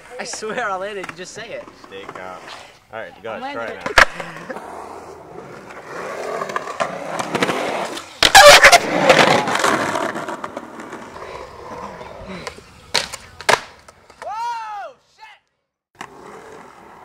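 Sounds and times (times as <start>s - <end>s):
skateboard trucks grinding: 0.0s - 14.4s, 16.0s - 17.0s
skateboard wheels rolling on concrete: 0.0s - 14.9s, 15.9s - 17.0s.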